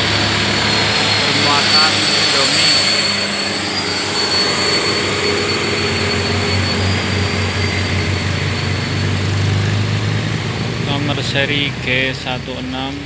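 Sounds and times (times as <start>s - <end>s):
low hum: 0.0s - 11.8s
high-pitched whine: 0.0s - 13.0s
motorcycle and vehicle engines: 0.0s - 13.0s.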